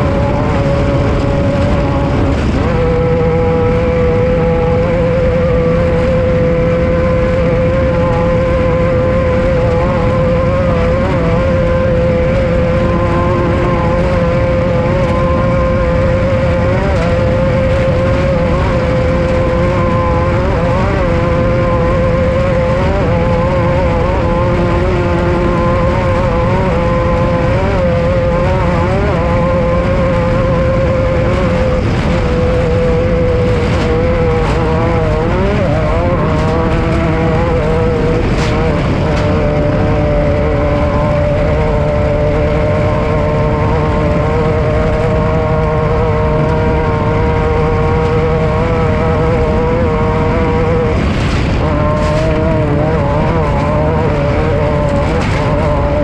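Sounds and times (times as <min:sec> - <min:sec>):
loud low rumble: 0:00.0 - 0:56.0
race vehicle engine revving: 0:00.0 - 0:56.0.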